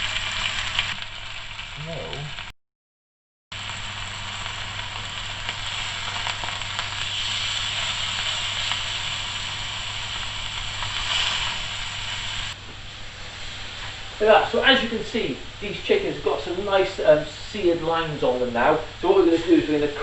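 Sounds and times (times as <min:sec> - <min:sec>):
chicken sizzling in oil: 0:00.0 - 0:02.5, 0:03.6 - 0:20.0.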